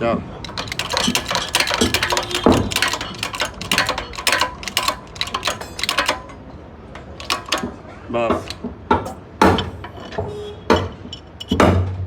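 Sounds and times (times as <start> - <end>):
metallic clicking of hand tools: 0.4 - 11.7.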